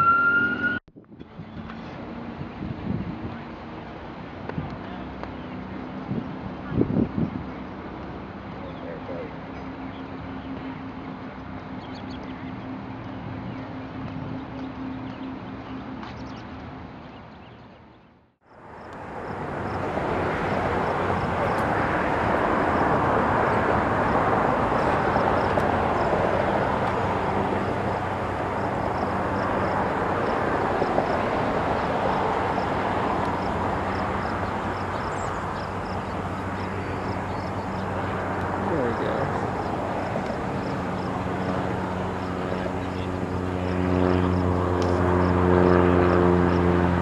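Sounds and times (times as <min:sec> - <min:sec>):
propeller plane engines droning: 0:00.0 - 0:47.0.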